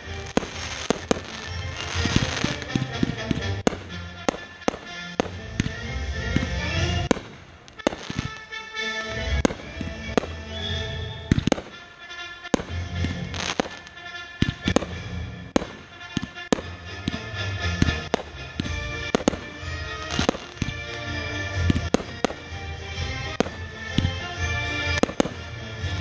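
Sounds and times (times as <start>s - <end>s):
fireworks banging: 0.0s - 26.0s
music playing: 0.0s - 26.0s.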